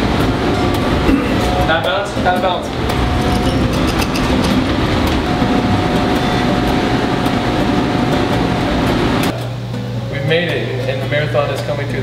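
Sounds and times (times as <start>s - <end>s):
loud mechanical rumble: 0.0s - 9.8s.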